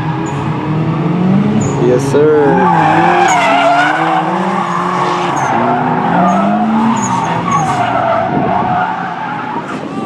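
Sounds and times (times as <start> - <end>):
car engine revving: 0.0 - 9.6
tyres squealing: 1.6 - 10.0.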